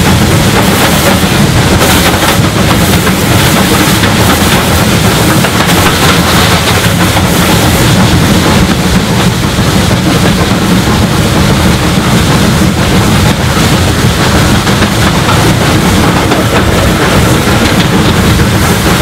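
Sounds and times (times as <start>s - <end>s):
rail noise: 0.0s - 19.0s
steam locomotive exhaust beats: 0.0s - 19.0s
wind: 0.0s - 19.0s.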